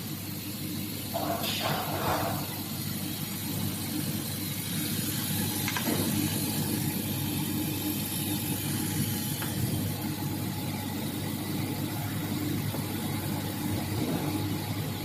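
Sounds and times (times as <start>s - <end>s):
laser cutter mechanical hum: 0.0s - 15.0s.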